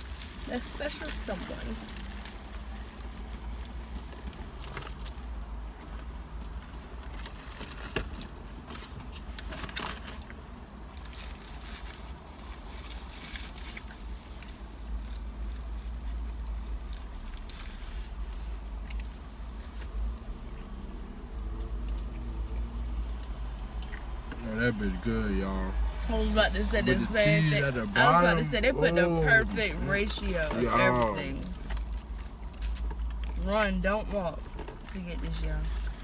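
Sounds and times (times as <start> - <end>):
low rumble inside car: 0.0 - 36.0.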